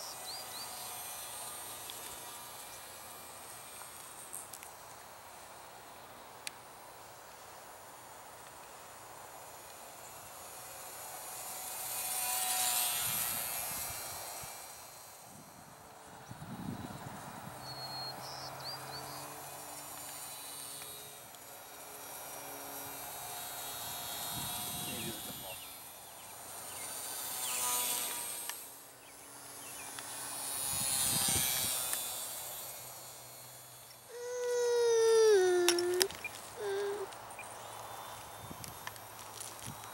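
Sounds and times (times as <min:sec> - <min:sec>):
electric motor and propeller whining: 0:00.0 - 0:05.8, 0:08.4 - 0:39.9.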